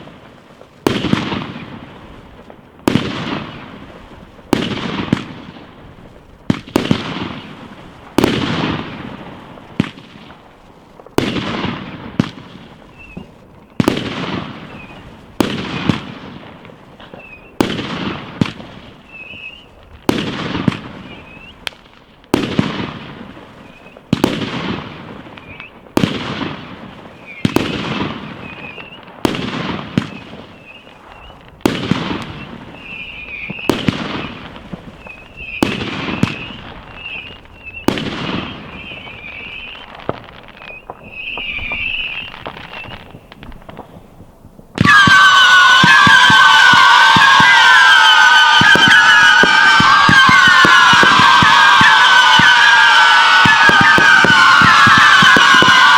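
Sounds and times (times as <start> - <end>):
fireworks banging: 0.0 - 55.9.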